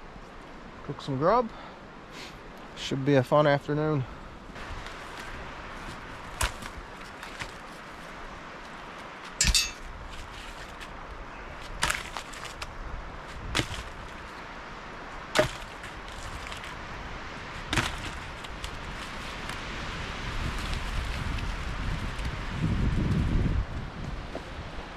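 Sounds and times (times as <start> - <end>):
outdoor background noise: 0.0 - 24.9.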